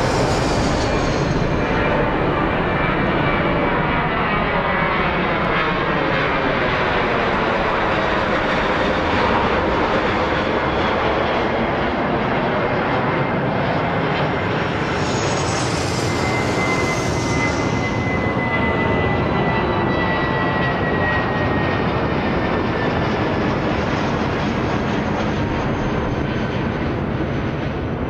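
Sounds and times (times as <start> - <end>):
electronic engine roar: 0.0 - 5.3, 8.1 - 25.4.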